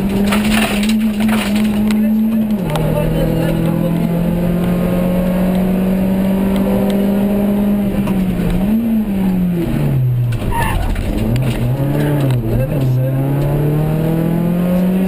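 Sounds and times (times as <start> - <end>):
car engine revving from inside: 0.1 - 15.0.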